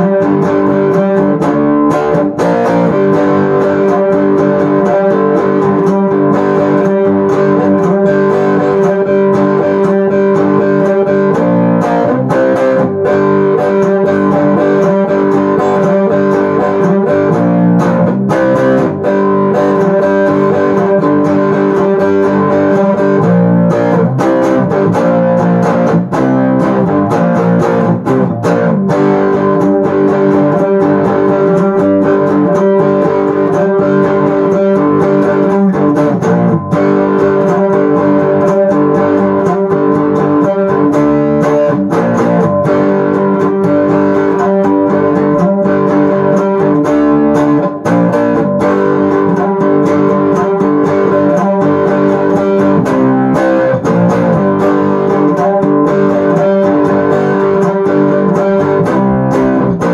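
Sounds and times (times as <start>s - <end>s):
amplified resonator guitar riff: 0.0s - 59.9s.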